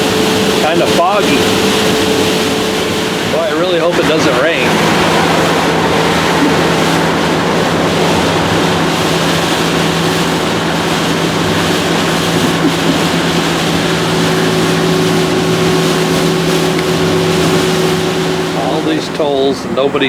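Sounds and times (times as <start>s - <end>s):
higher hum: 0.0s - 20.0s
low engine hum: 0.0s - 20.0s
tyre and rain noise on wet road: 0.0s - 20.0s.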